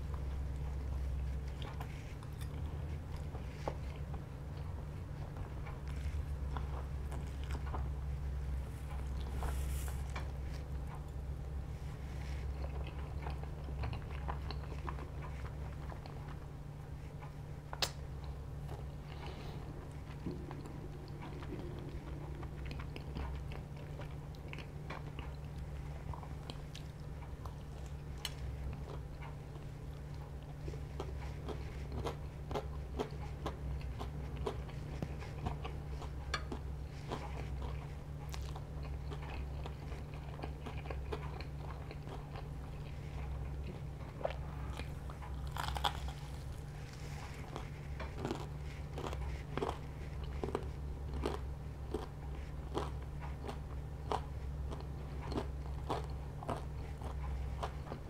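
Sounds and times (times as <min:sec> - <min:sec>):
crunching fried chicken: 0:00.0 - 0:58.0
steady low hum: 0:00.0 - 0:58.0.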